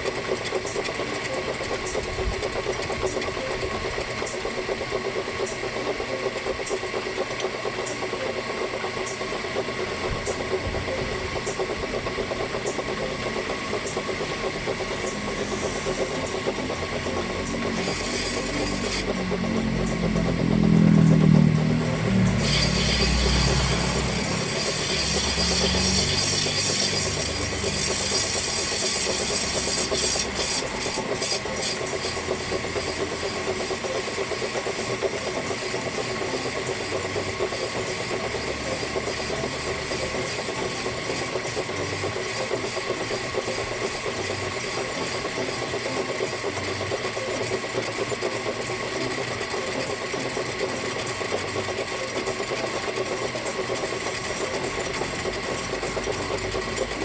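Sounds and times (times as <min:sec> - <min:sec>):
machine motor humming: 0:00.0 - 0:57.0.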